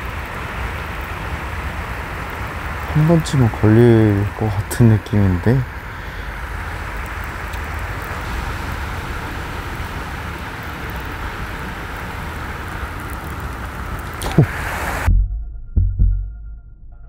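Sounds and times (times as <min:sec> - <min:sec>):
rain falling on water: 0:00.0 - 0:15.1
wind rumbling on microphone: 0:00.0 - 0:15.2.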